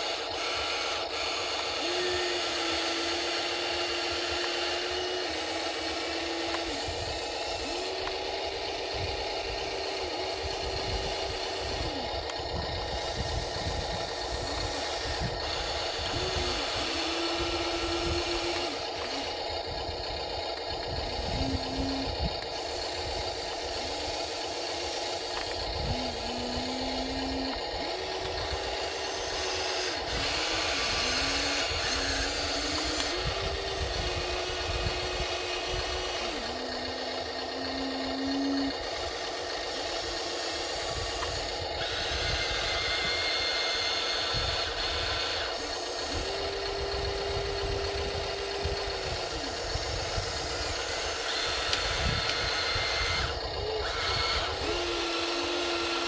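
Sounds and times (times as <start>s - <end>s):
toy electric motor whine: 0.0s - 56.0s.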